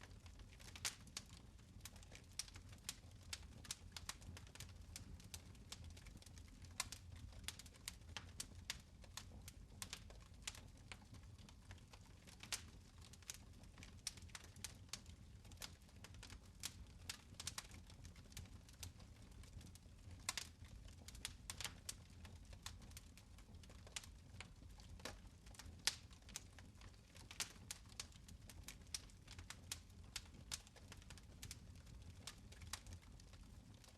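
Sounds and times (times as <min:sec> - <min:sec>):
fire crackling: 0:00.0 - 0:33.9.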